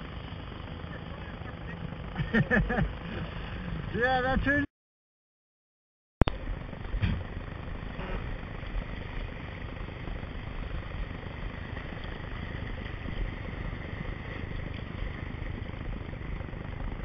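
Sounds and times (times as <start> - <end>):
surf breaking and churning: 0.0 - 4.6, 6.4 - 17.0.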